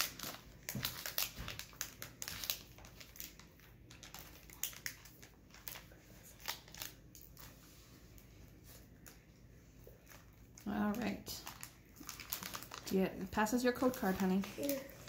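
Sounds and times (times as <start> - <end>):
foil wrapper crinkling: 0.0 - 9.3, 9.9 - 15.0.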